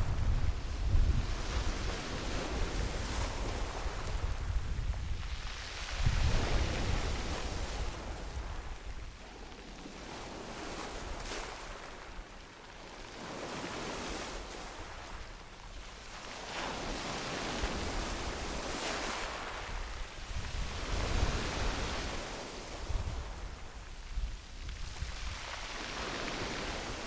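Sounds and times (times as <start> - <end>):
waves washing up gravel beach: 0.0 - 27.0.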